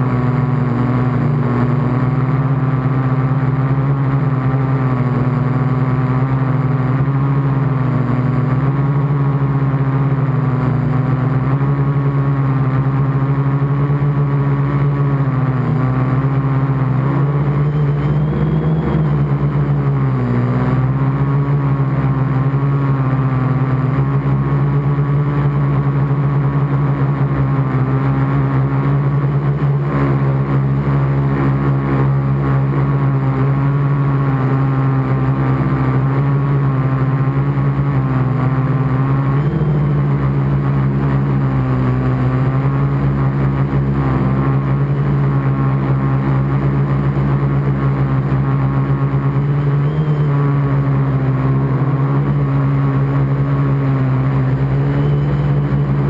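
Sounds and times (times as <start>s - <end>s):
quadcopter motors humming: 0.0s - 56.0s.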